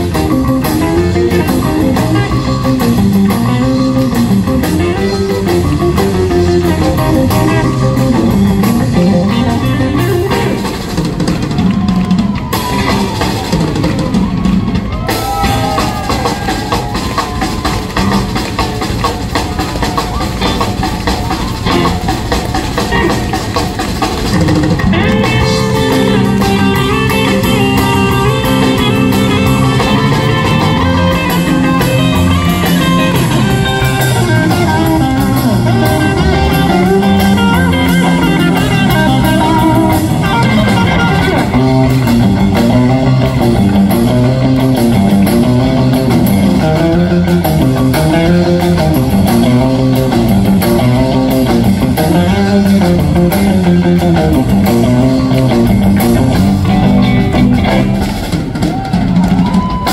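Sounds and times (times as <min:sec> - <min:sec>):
bending guitar notes: 0:00.0 - 0:59.9
rock band playing: 0:00.0 - 0:59.9.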